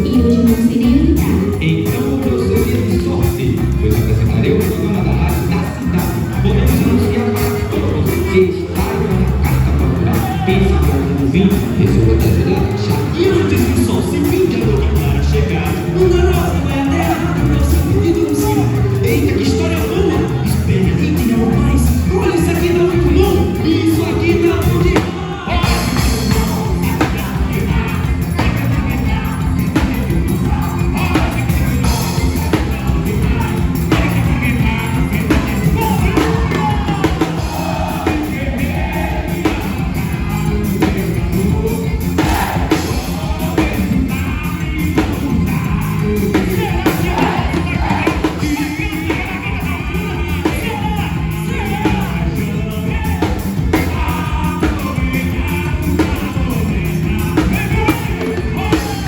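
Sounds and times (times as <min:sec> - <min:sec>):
band playing a song: 0:00.0 - 0:59.0
drum kit: 0:00.0 - 0:59.0
person singing: 0:00.0 - 0:59.0.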